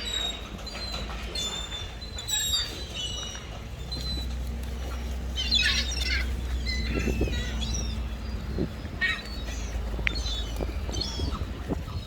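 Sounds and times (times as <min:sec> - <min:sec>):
low steady rumble: 0:00.0 - 0:12.0
seagulls calling: 0:00.0 - 0:12.0.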